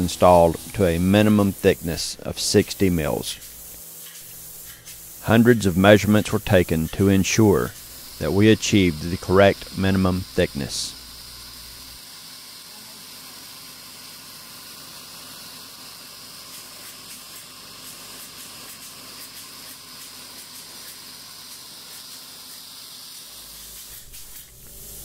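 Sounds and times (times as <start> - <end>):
spray gun hissing: 0.0 - 25.0.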